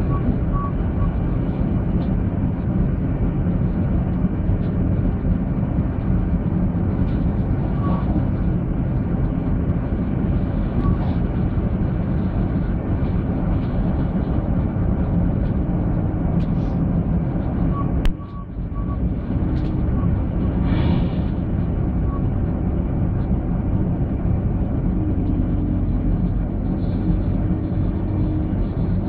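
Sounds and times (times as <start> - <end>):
train rumbling at speed: 0.0 - 29.0.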